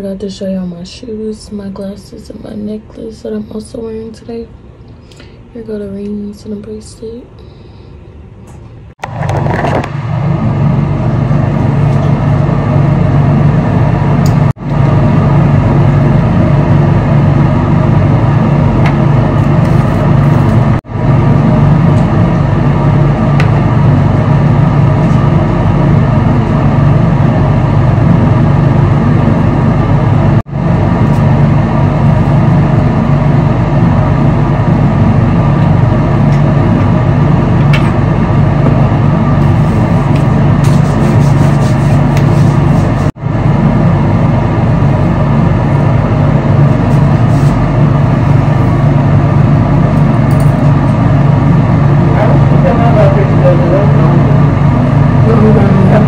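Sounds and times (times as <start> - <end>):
road vehicle moving: 9.0 - 56.0.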